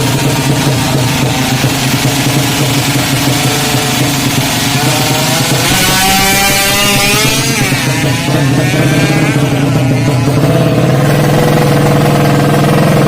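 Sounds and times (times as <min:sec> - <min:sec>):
motorcycle engine revving loudly: 0:00.0 - 0:13.0.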